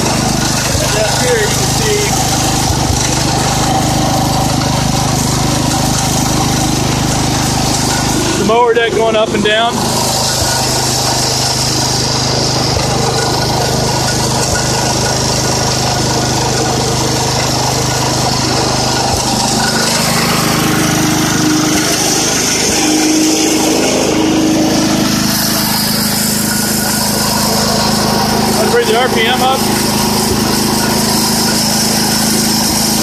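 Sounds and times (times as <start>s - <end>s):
garden tractor engine running: 0.0s - 33.0s
mower drive noise: 0.0s - 33.0s.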